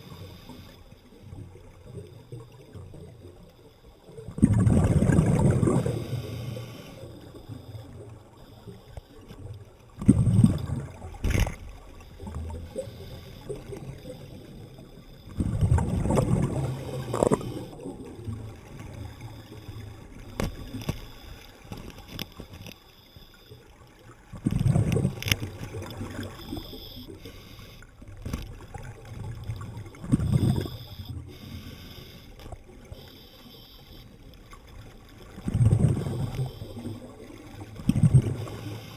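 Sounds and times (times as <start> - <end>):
underwater hiss: 0.0 - 9.4, 10.2 - 23.8, 24.7 - 28.2, 29.5 - 34.5, 35.5 - 38.9
underwater air bubbles gurgling: 0.0 - 22.7, 23.3 - 38.9.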